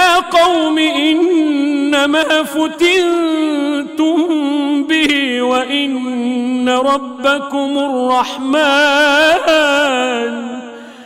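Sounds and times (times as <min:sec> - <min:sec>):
man chanting melodic recitation: 0:00.0 - 0:10.9.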